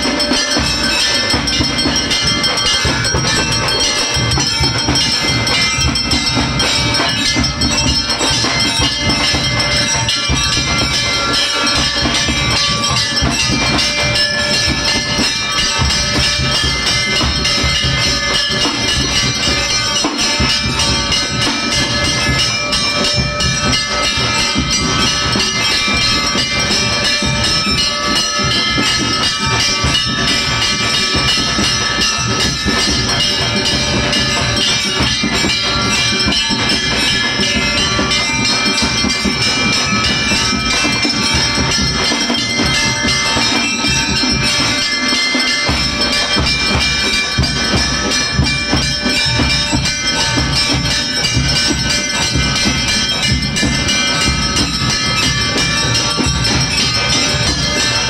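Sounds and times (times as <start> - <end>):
bells ringing: 0.0 - 58.0
loud devotional music: 0.0 - 58.0.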